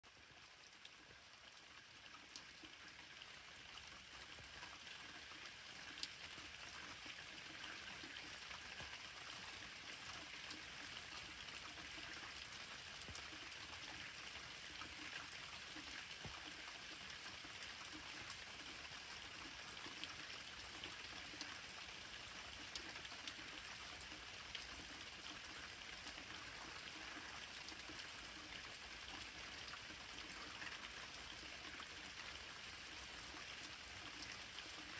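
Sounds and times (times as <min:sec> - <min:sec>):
rain drips and patters: 0:00.0 - 0:34.9.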